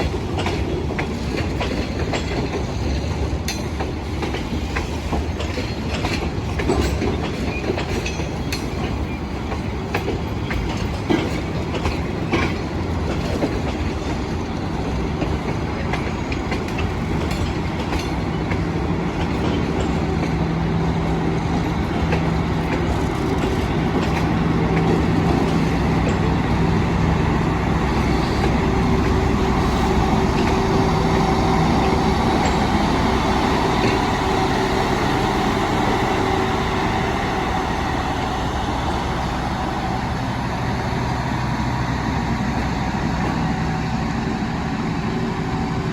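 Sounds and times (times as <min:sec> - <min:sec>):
wheels clicking over rail joints: 0:00.0 - 0:40.6
train carriages rumbling by: 0:00.0 - 0:45.9.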